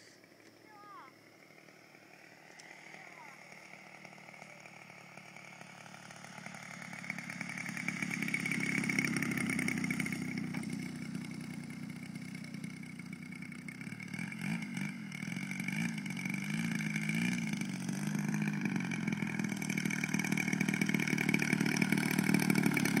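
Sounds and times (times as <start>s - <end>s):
model plane engine running: 0.0s - 23.0s.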